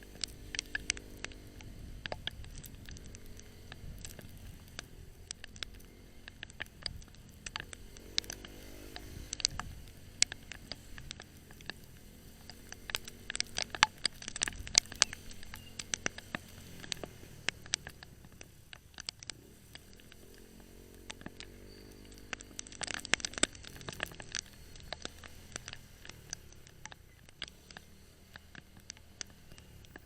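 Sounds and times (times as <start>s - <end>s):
motorcycle engine: 0.0s - 30.0s
sharp clicks and ticks: 0.0s - 30.0s.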